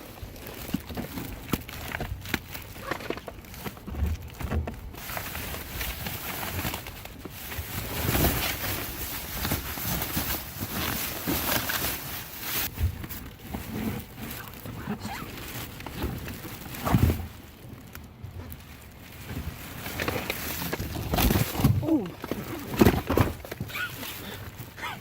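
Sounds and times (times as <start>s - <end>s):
rustling of bags and boxes: 0.0s - 25.0s.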